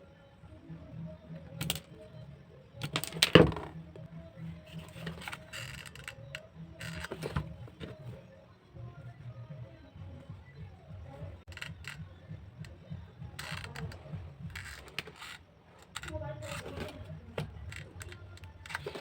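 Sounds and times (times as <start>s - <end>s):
faint background music: 0.0s - 19.0s.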